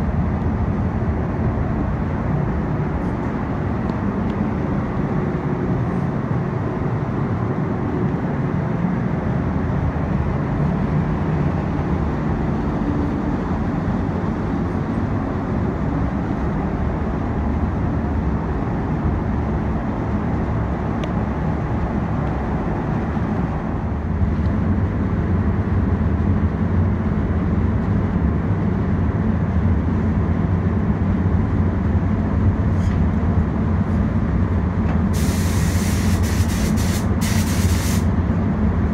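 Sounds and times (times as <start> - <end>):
ventilation fan hum and airflow: 0.0 - 38.9.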